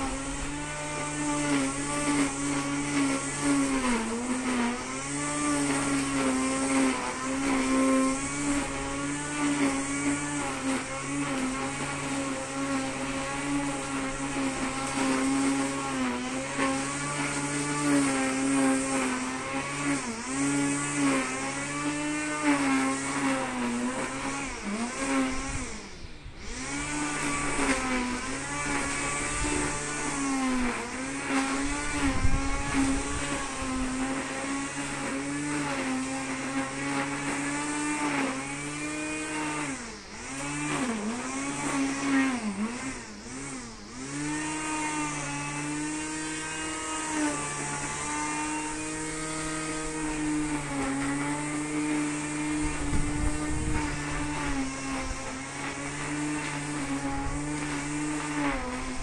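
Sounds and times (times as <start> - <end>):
brush cutter running at high revs: 0.0 - 59.0.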